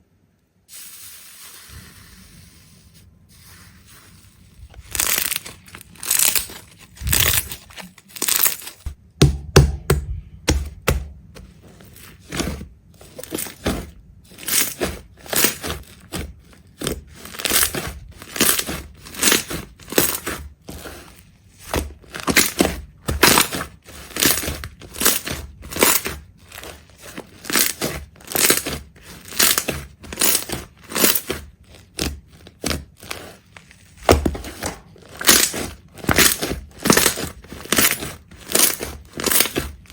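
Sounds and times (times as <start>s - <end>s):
crunching and crackling: 3.3s - 9.0s, 10.5s - 39.9s.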